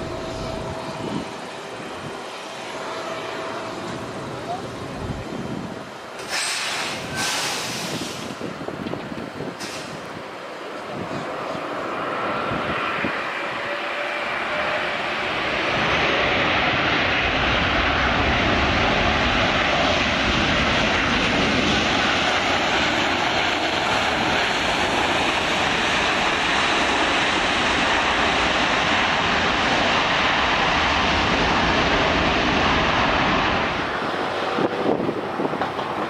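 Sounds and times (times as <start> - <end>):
wind buffeting microphone: 0.0 - 2.7, 3.7 - 6.1, 6.9 - 36.0
jet engine roar: 0.0 - 36.0.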